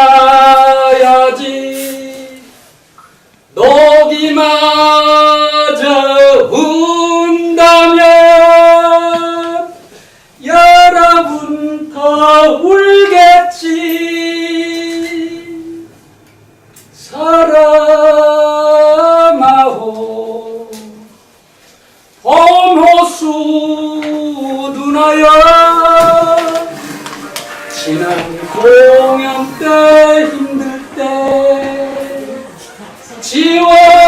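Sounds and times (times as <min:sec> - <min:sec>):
person singing unaccompanied ballad: 0:00.0 - 0:02.7, 0:03.5 - 0:16.0, 0:16.9 - 0:21.4, 0:22.2 - 0:34.0.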